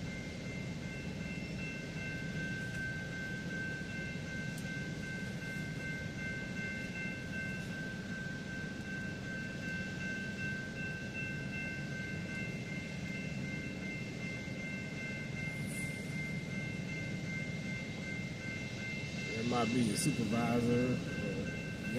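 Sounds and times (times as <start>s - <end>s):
diesel locomotive rumbling: 0.0s - 21.9s
steady high-pitched tones: 0.0s - 21.9s.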